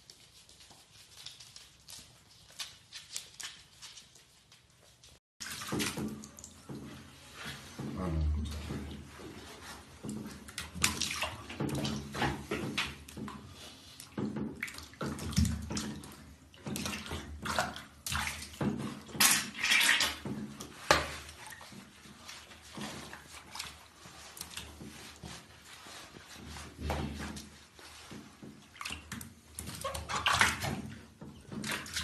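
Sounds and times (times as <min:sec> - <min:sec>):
water splashing in a bathtub: 0:00.0 - 0:32.0.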